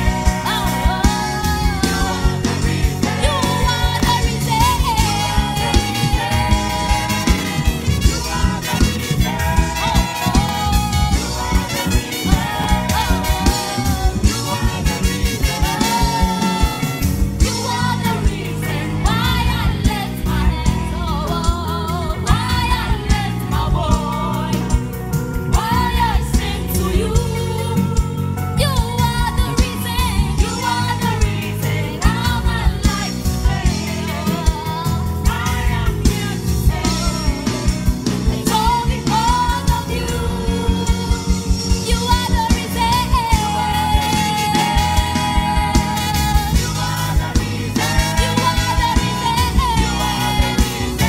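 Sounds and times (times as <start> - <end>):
woman singing with vibrato: 0.0 - 24.8, 25.6 - 51.0
bass guitar: 0.0 - 51.0
drum kit beating: 0.0 - 51.0
live gospel band music: 0.0 - 51.0.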